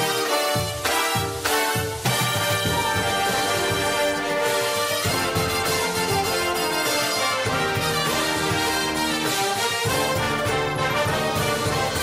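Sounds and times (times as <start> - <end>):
held instrumental chords: 0.1 - 12.0.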